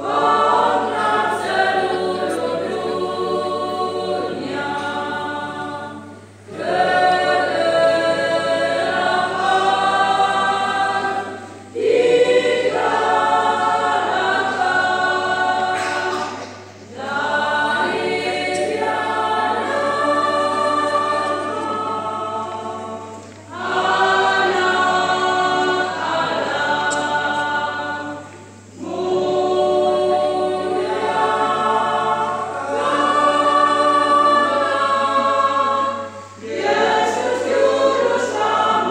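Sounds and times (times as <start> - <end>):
women's choir singing a hymn: 0.0 - 38.9.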